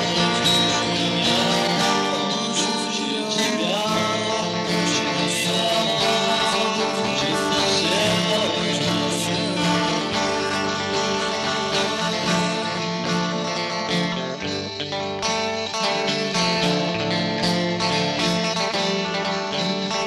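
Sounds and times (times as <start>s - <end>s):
guitar-led band music: 0.0s - 20.0s.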